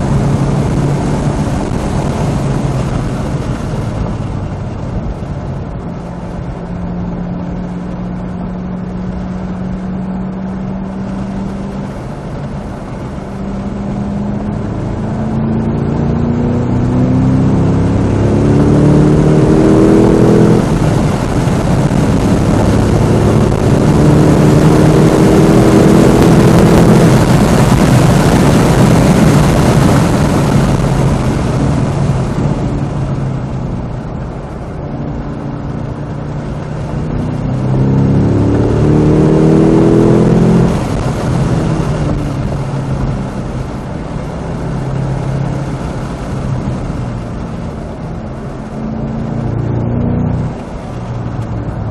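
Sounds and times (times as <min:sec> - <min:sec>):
car engine at full throttle: 0:00.0 - 0:51.9
wind and tyre noise: 0:00.0 - 0:51.9.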